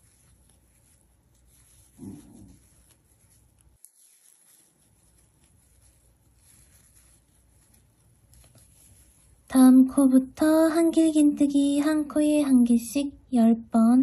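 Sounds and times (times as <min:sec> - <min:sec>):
yarn rustling over crochet hook: 0:00.0 - 0:12.8.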